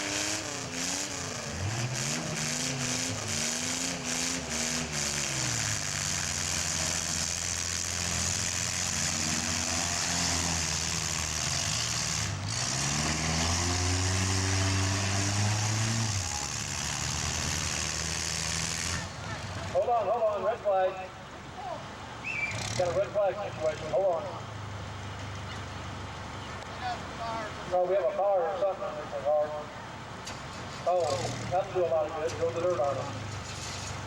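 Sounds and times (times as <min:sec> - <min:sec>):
car engines revving and idling: 0:00.0 - 0:34.0.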